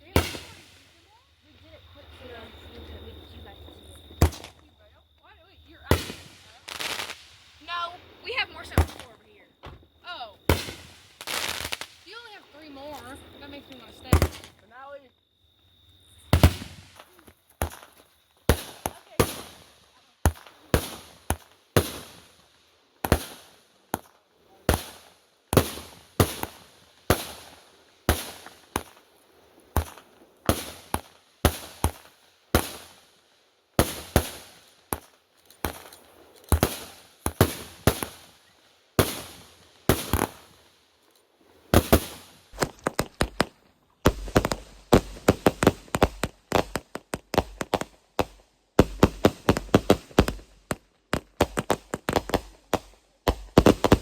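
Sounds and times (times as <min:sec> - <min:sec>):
fireworks bangs: 0:00.0 - 0:15.1, 0:16.1 - 0:40.8, 0:41.4 - 0:54.0.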